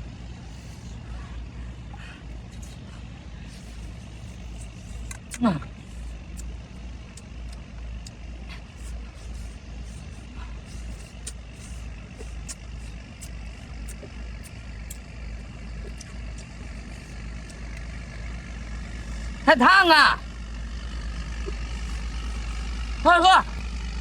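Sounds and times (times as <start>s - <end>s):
low uneven rumble: 0.0s - 24.0s
chewing and lip smacks: 0.2s - 19.4s, 21.4s - 22.9s.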